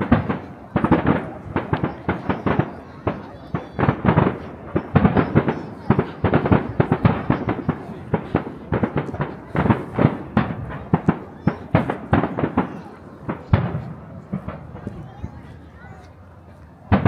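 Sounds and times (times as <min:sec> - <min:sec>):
fireworks bangs: 0:00.0 - 0:16.1, 0:16.8 - 0:17.0.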